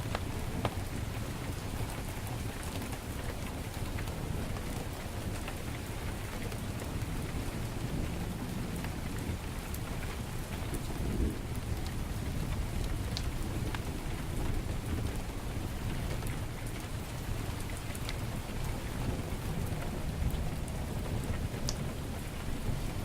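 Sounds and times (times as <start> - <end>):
heavy rain pouring: 0.0 - 23.0
wood fire crackling: 0.0 - 23.0.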